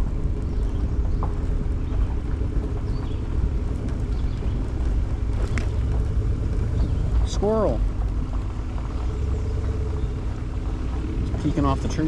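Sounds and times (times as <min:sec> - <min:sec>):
moving water: 0:00.0 - 0:12.0
wind: 0:00.0 - 0:12.0.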